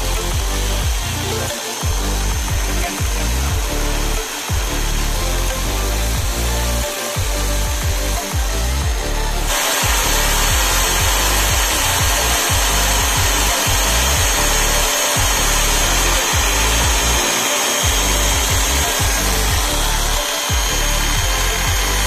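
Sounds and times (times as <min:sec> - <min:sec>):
power drill running: 0:00.0 - 0:22.0.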